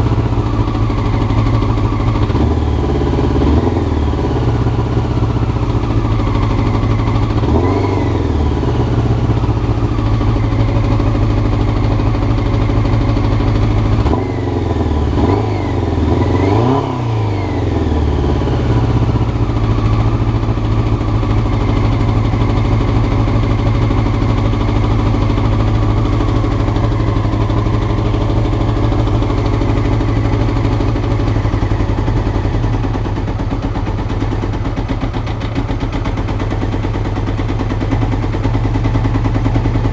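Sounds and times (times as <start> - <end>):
motorcycle engine idling: 0.0 - 39.9
motorcycle throttle blips: 0.0 - 39.9.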